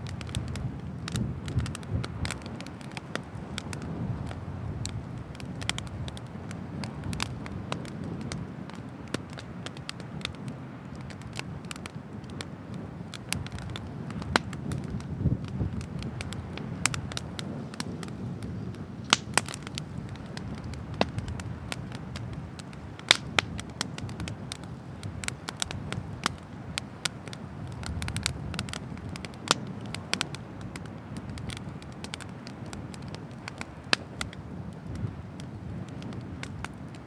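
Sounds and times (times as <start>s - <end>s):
firewood popping and snapping: 0.0s - 37.0s
low fire rumble: 0.0s - 37.0s.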